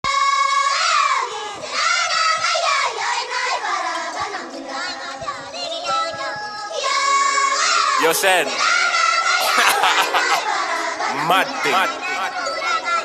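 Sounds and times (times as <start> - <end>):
high voices singing together: 0.1 - 13.0.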